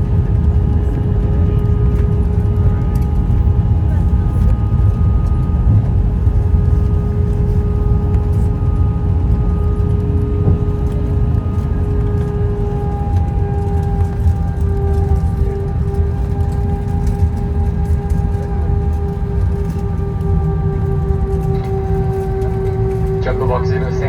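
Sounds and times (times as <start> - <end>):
aircraft cabin rumble: 0.0 - 24.0
jet engine whine: 0.0 - 24.0.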